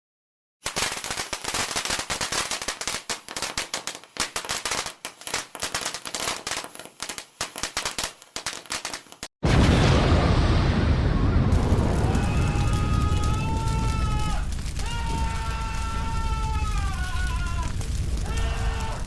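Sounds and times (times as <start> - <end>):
fire crackling: 0.6 - 19.0.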